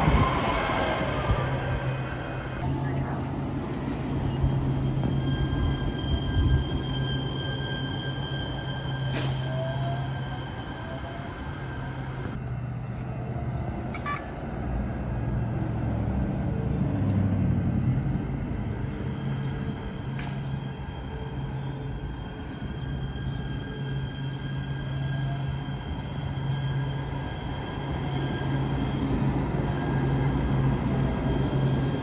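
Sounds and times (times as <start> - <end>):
train low rumble: 0.0 - 32.0.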